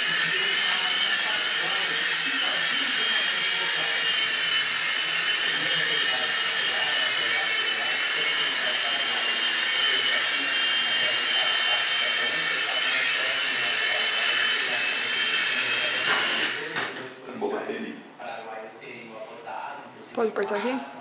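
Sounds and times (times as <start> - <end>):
toy helicopter rotors whining: 0.0 - 17.0.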